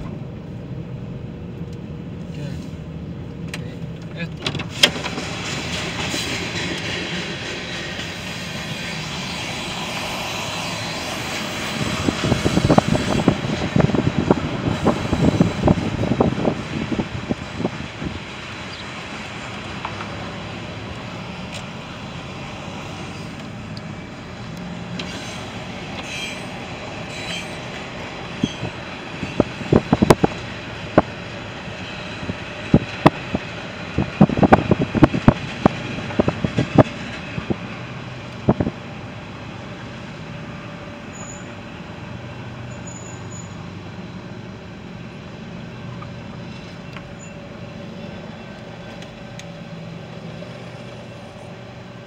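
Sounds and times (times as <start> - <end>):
freight train rumble: 0.0 - 52.0.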